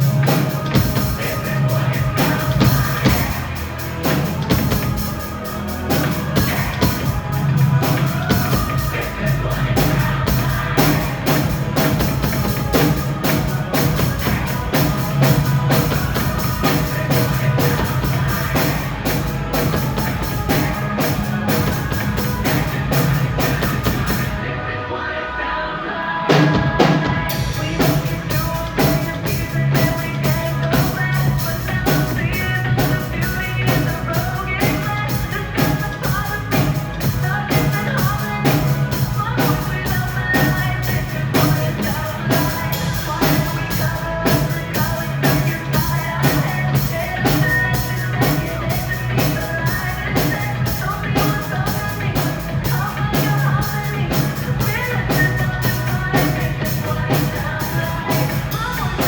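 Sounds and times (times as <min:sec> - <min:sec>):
drum kit beat: 0:00.0 - 0:24.4, 0:26.3 - 0:59.0
bass line: 0:00.0 - 0:59.0
pop-rock band playing: 0:00.0 - 0:59.0.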